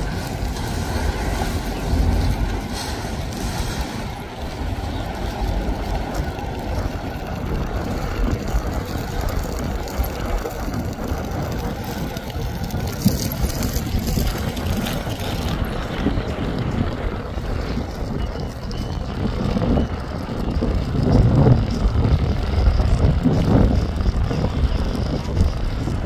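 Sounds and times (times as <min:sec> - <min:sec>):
boat engines and churning wake: 0:00.0 - 0:26.0
wind buffeting microphone: 0:00.0 - 0:26.0.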